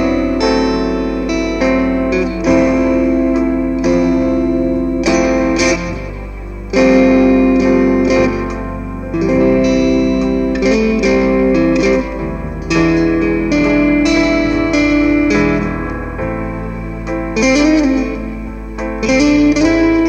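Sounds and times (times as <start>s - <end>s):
electric guitar playing blues: 0.0s - 20.0s.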